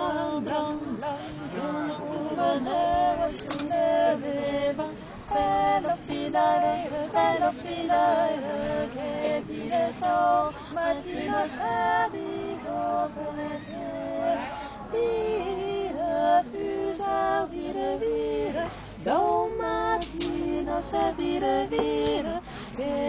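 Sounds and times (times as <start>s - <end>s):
women singing unaccompanied: 0.0s - 23.0s.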